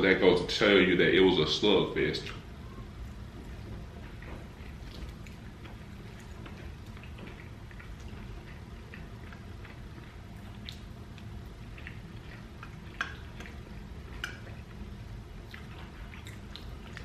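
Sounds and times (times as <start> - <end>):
low hum: 0.0 - 17.0
person chewing and lip-smacking: 2.2 - 17.0.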